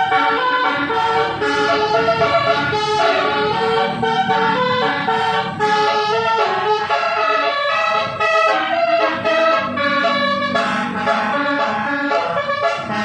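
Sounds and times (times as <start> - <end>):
musical horn playing a tune: 0.0 - 13.0.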